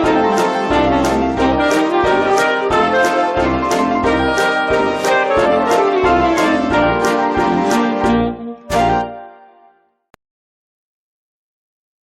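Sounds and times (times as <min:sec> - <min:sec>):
background music with brass melody: 0:00.0 - 0:10.0.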